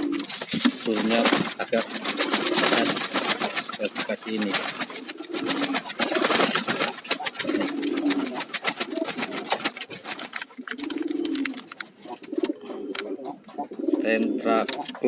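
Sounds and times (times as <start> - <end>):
pigeons cooing: 0.0 - 15.0
rattle of clicks: 0.1 - 13.1.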